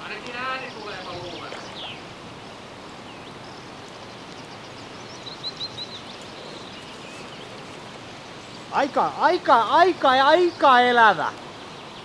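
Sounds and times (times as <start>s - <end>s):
steady outdoor hiss: 0.0s - 12.0s
small bird chirping: 0.3s - 10.8s.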